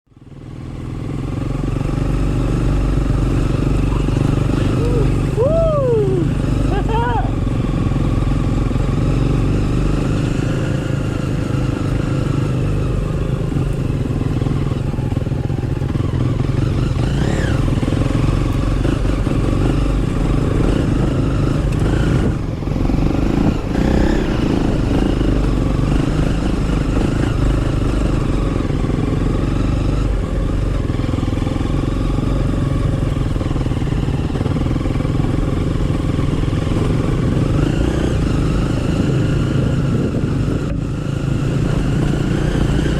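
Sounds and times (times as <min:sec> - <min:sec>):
motorcycle engine running: 0:00.1 - 0:42.9.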